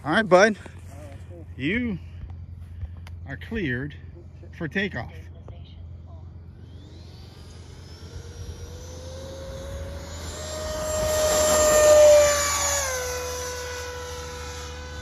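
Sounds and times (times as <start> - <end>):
electric ducted fan whining: 0.0 - 15.0.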